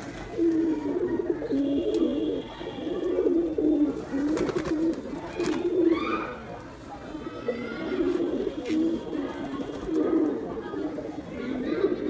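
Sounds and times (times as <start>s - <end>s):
pigeons cooing: 0.0s - 6.4s, 7.4s - 12.0s.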